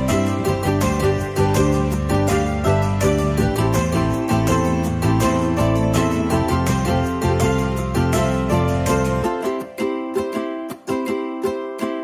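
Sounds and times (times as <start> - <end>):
instrumental music with bass line: 0.0 - 12.0.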